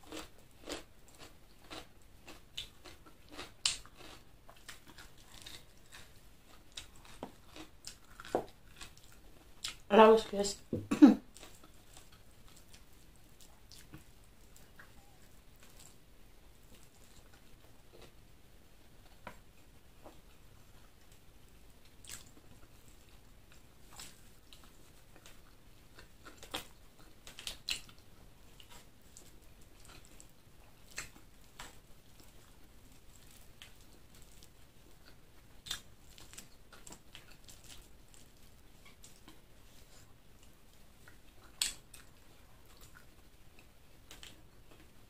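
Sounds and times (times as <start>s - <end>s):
person chewing food: 0.0s - 9.9s, 10.7s - 45.0s.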